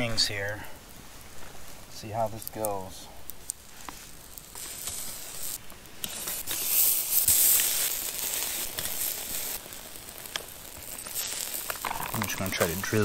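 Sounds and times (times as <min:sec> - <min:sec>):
chicken wings sizzling on a grate: 0:00.0 - 0:13.0.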